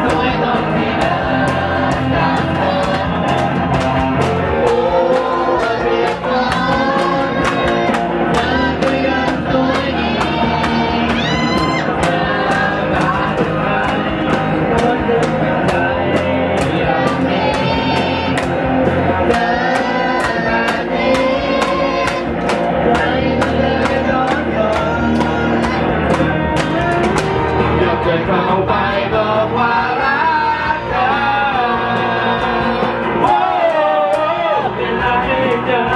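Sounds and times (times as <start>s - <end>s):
acoustic guitar strumming: 0.0s - 35.9s
electric guitar: 0.0s - 35.9s
electronic drum beat: 0.0s - 35.9s
people singing into microphones: 0.0s - 35.9s.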